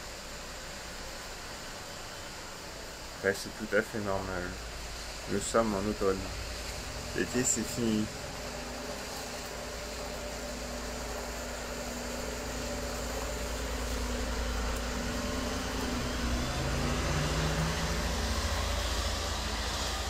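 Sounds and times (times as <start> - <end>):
vehicle engine humming: 0.0 - 20.0
wind and rain: 0.0 - 20.0.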